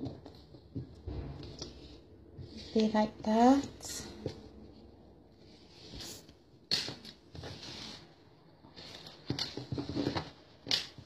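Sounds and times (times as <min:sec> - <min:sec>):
fabric rustling: 0:01.4 - 0:11.0.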